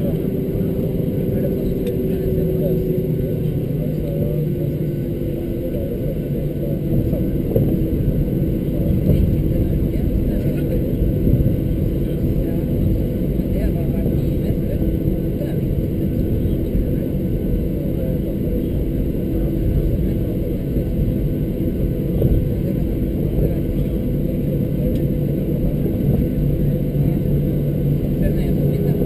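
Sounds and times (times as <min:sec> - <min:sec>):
constant hum: 0:00.0 - 0:29.0
jet engines rumbling at idle: 0:00.0 - 0:29.0.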